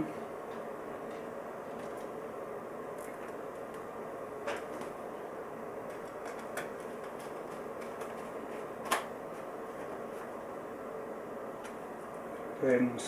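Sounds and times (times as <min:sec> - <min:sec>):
space heater fan hissing: 0:00.0 - 0:13.0.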